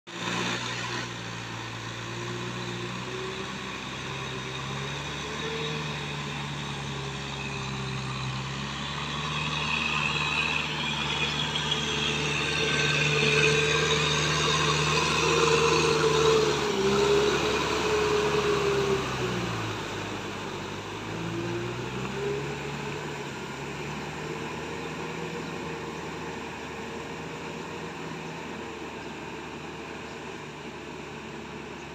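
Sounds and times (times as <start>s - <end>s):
tractor diesel engine under load: 0.1s - 31.9s.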